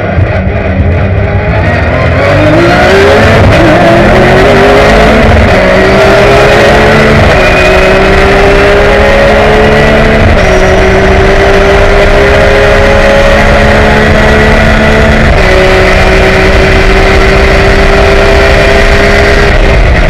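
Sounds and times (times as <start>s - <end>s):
race car engine: 0.0s - 20.0s.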